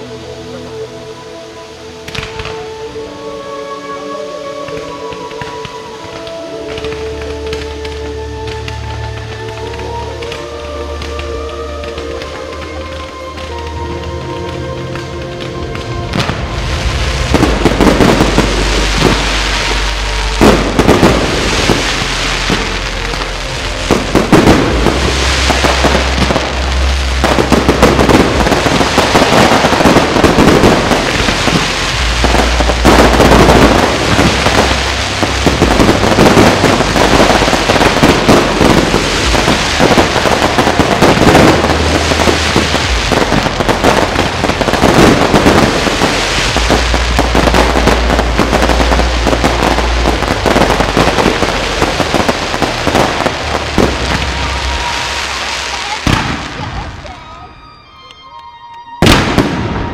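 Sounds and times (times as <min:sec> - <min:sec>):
fireworks bursting and crackling: 0:00.0 - 0:58.0, 0:58.8 - 0:59.9.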